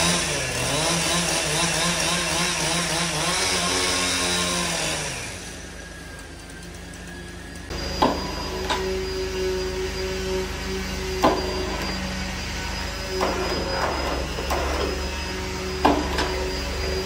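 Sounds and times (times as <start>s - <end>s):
workshop machinery humming: 0.0s - 17.0s.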